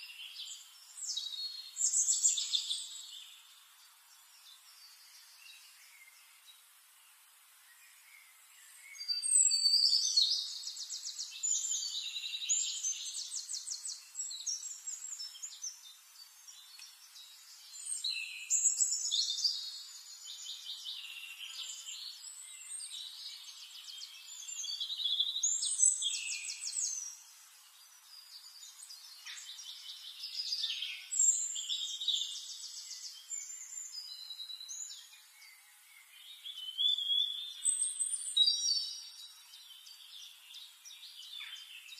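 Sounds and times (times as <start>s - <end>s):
songbirds trilling and warbling: 0.0s - 41.9s.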